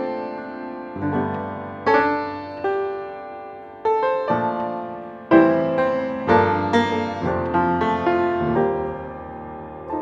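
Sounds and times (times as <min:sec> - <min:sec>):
piano chords ringing: 0:00.0 - 0:10.0.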